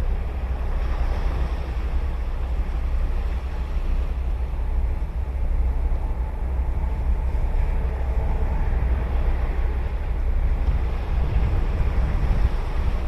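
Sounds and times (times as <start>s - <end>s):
ocean surf on sandy beach: 0.0s - 13.0s
wind buffeting microphone: 0.0s - 13.0s.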